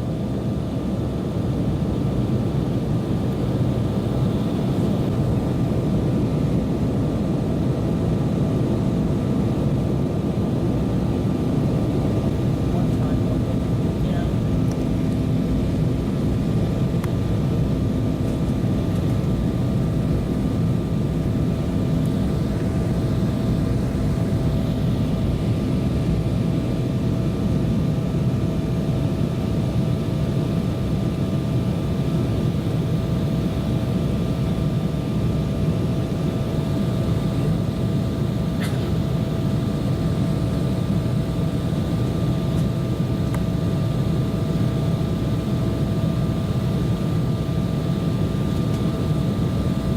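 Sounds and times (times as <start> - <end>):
airliner cabin engine rumble: 0.0 - 49.9
faint steady whine: 0.0 - 49.9.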